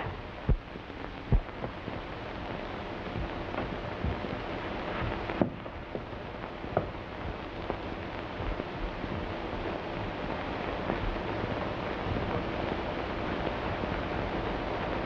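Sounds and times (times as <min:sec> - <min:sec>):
film soundtrack hiss and crackle: 0:00.0 - 0:15.0.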